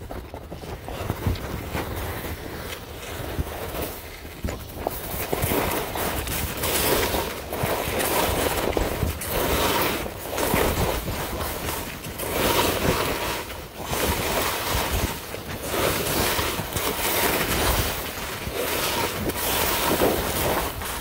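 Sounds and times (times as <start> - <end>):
edges scraping over snow: 0.2 - 21.0.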